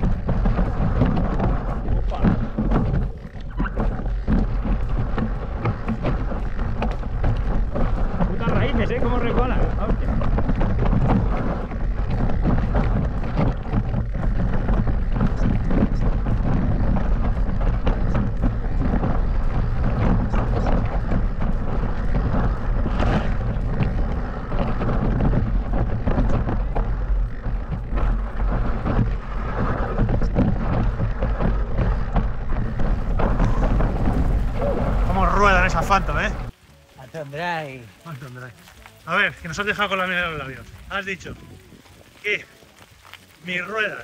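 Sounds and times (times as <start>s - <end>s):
bike knocks and rattles: 0.0s - 36.6s
wind buffeting microphone: 0.0s - 36.6s, 37.5s - 44.0s.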